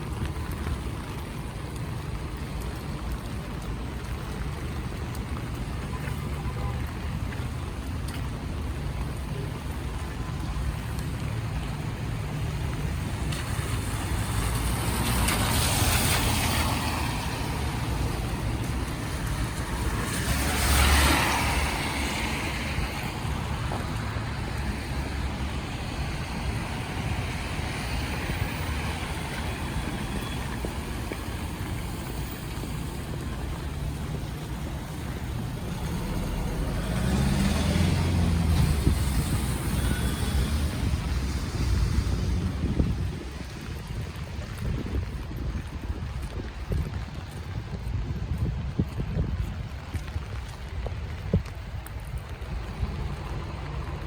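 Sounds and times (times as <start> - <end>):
city traffic rumble: 0.0 - 54.0
tyre hiss on wet street: 0.0 - 54.0.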